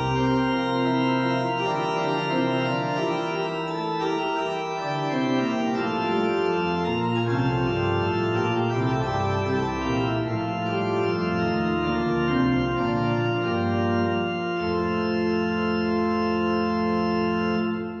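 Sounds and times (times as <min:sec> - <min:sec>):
pipe organ chords: 0:00.0 - 0:18.0.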